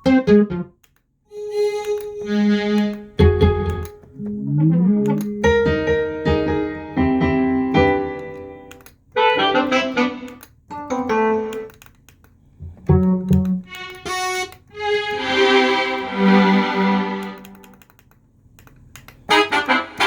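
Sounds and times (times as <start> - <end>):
synthesizer chords and notes: 0.0 - 11.8, 12.8 - 17.8.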